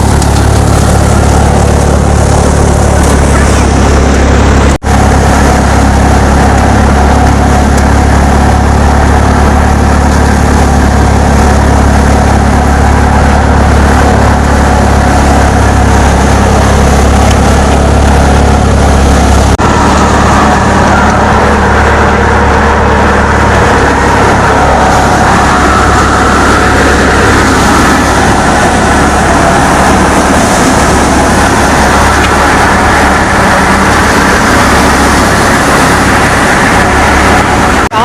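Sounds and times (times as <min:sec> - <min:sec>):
thresher clattering and whirring: 0:00.0 - 0:37.9
tractor diesel engine hum: 0:00.0 - 0:38.0.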